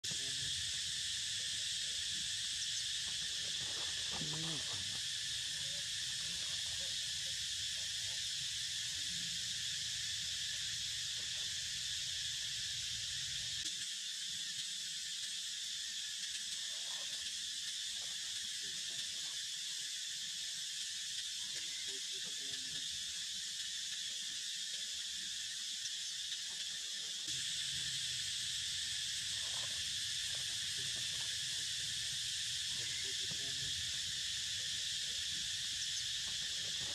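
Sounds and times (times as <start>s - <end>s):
insects droning: 0.0s - 36.9s.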